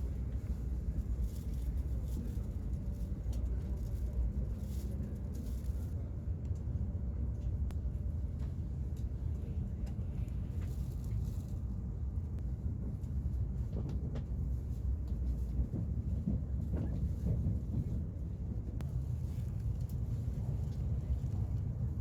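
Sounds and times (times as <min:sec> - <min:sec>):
train rumbling from inside carriage: 0:00.0 - 0:22.0.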